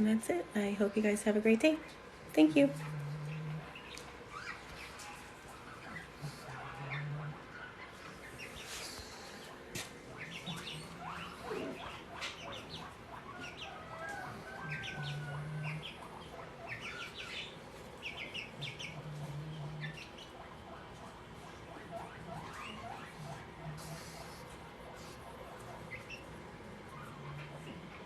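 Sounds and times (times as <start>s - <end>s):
birds chirping: 0.6s - 28.0s.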